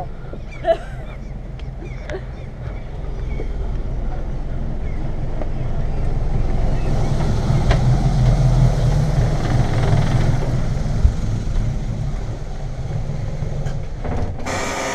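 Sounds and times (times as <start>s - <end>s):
boat engines idling: 0.0s - 14.9s.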